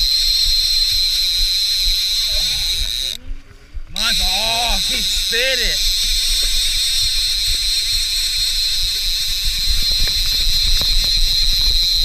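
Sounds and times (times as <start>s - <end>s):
fishing reel clicks: 0.0s - 3.2s, 3.9s - 12.0s
steady high whine: 0.0s - 12.0s
wind on microphone: 0.0s - 12.0s.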